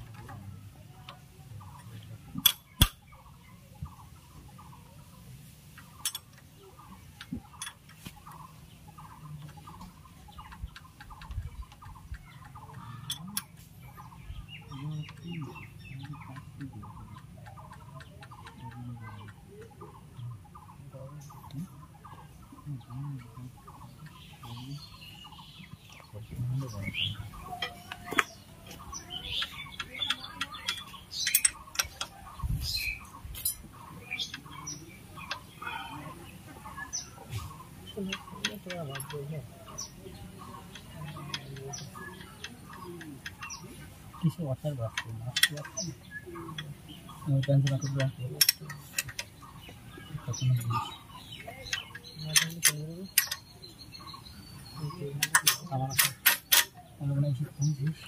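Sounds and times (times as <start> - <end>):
birds chirping and squawking: 0.0 - 58.0
low voices talking: 0.0 - 58.0.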